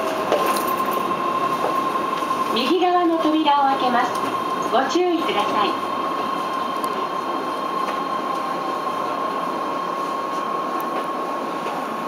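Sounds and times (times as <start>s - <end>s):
high motor whine: 0.0s - 12.0s
train running noise: 0.0s - 12.0s.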